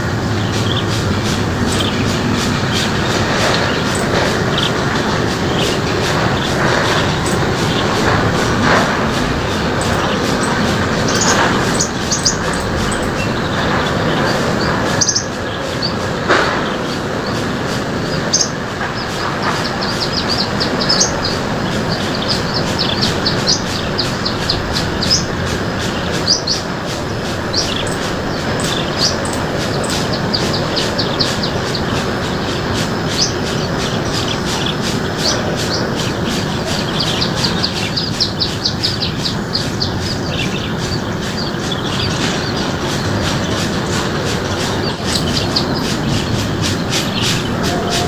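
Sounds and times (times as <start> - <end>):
loud steady rushing noise: 0.0 - 48.0
small birds chirping: 0.0 - 48.0.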